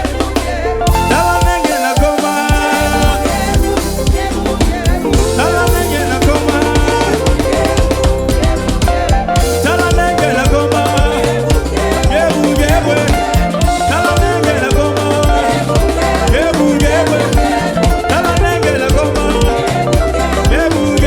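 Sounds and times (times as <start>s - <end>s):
drum kit beat: 0.0s - 21.0s
upbeat worship dance music: 0.0s - 21.0s.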